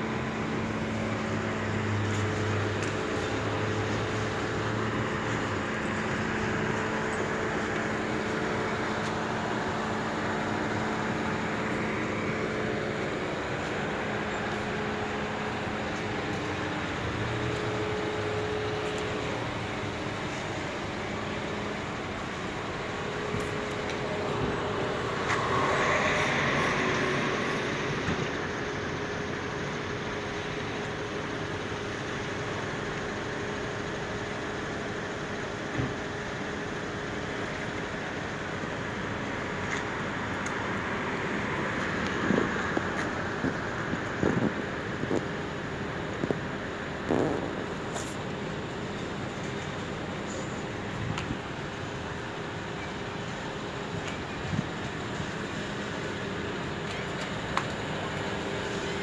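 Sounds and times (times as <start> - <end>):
traffic hum: 0.0 - 59.0.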